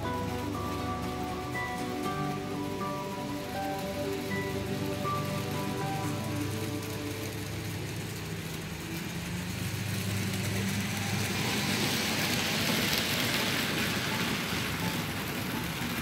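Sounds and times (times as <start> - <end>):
model train hum: 0.0 - 16.0
wheels rattling on track: 0.0 - 16.0.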